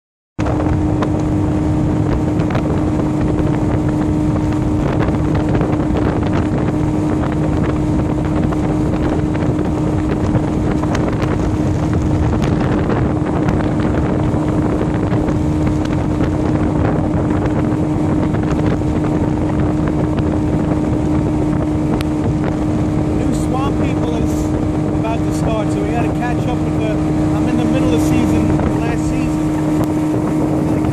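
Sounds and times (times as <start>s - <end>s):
outboard motor running: 0.4s - 30.9s
wind buffeting microphone: 0.4s - 30.9s.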